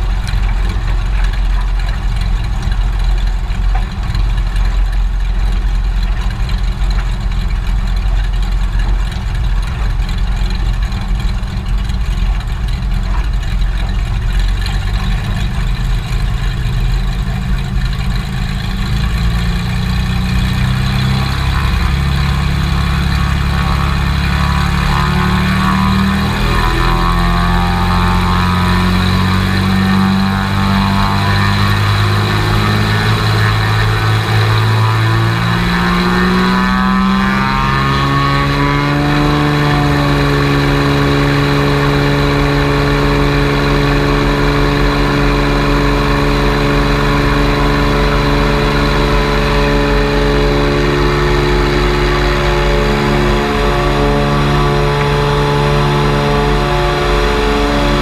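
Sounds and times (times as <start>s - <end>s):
airplane engine and propeller: 0.0s - 58.0s.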